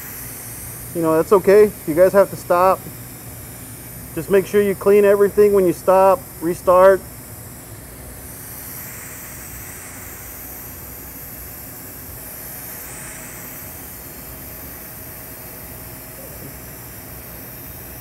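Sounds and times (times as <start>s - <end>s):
welding arc hissing: 0.0s - 18.0s.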